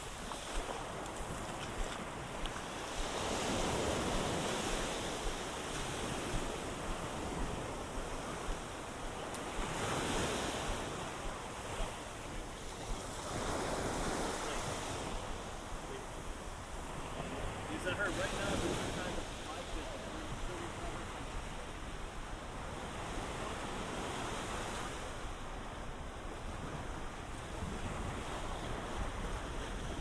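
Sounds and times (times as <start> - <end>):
waves washing against a wall: 0.0 - 30.0
wind on microphone: 0.0 - 30.0.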